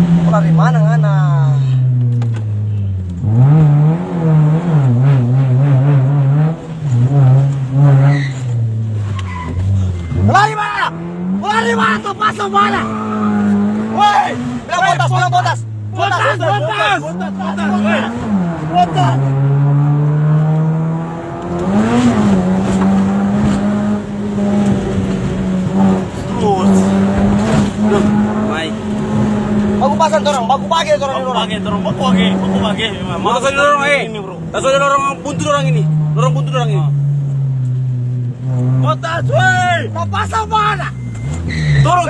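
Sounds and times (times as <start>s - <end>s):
engine revving hard: 3.2s - 8.9s, 9.5s - 42.0s.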